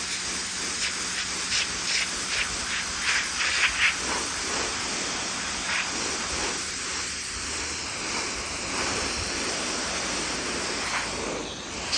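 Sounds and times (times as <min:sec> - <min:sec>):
pressure washer water jet hissing: 0:00.0 - 0:11.9.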